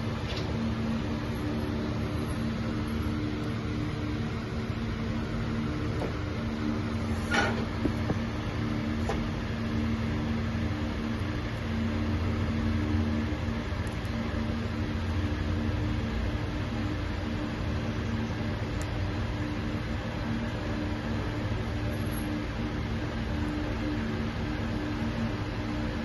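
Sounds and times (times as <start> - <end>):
mechanical hum with held tones: 0.0 - 26.0.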